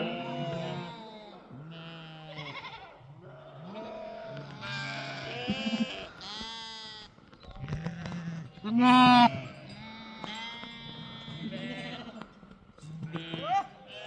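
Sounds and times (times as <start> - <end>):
sheep bleating: 0.0 - 12.4, 13.0 - 14.0.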